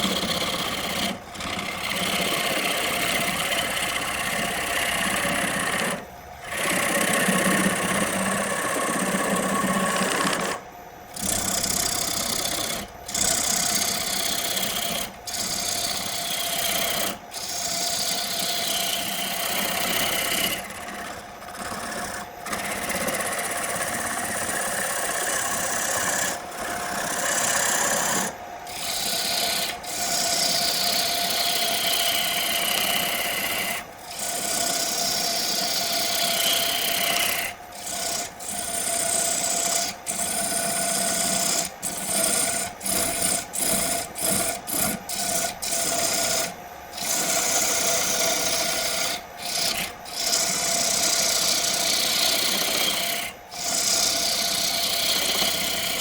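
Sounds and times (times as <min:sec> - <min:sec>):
tool rasping on spinning wood: 0:00.0 - 0:56.0
wood lathe running: 0:00.0 - 0:56.0.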